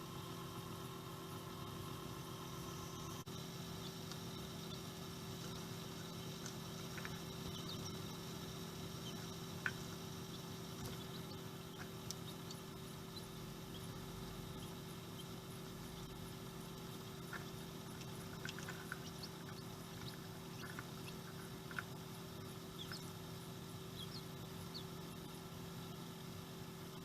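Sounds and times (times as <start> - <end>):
fans humming: 0.0 - 27.0
quail chicks peeping: 2.6 - 27.0.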